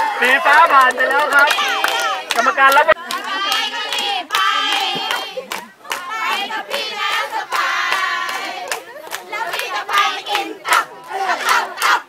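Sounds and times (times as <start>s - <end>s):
crowd clapping along: 0.0s - 12.0s
high-pitched voices cheering and chanting: 0.0s - 12.0s.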